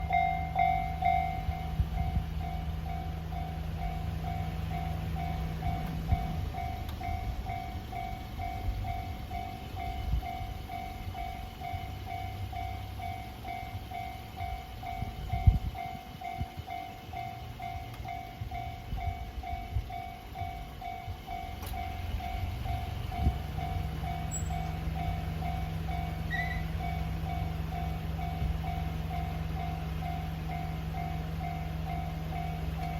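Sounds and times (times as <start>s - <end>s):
level-crossing warning bell ringing: 0.0s - 32.9s
train wheels rumbling on rails: 0.0s - 32.9s.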